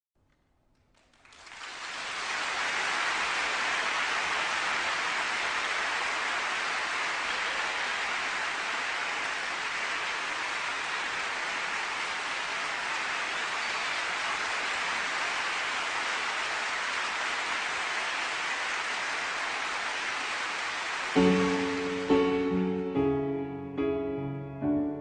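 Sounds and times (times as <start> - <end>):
audience applauding: 0.9 - 23.0.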